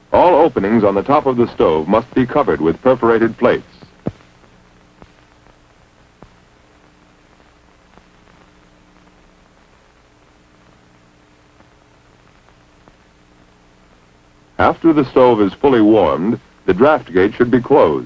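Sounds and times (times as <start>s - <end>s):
film soundtrack hiss and hum: 0.0s - 18.0s.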